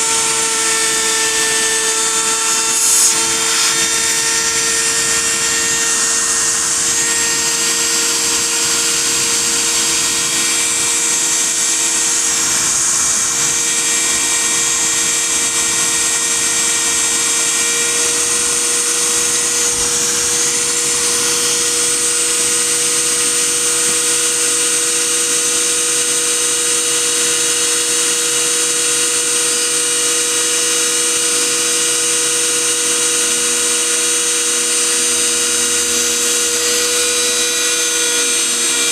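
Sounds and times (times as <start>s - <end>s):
milling spindle motor whine: 0.0s - 38.9s.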